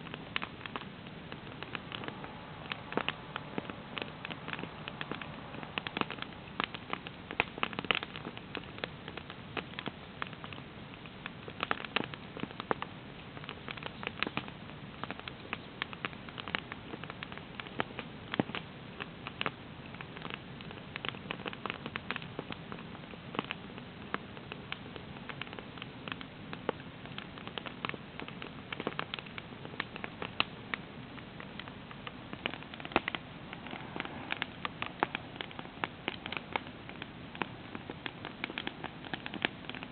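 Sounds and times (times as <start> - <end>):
campfire crackling and popping: 0.0 - 39.9
fire hissing: 0.0 - 39.9.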